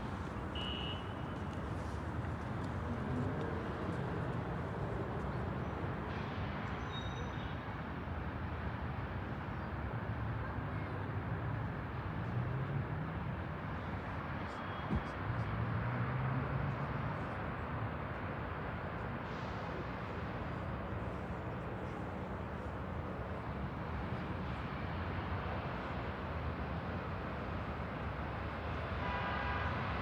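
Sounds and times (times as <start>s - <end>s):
distant traffic hum: 0.0s - 30.0s.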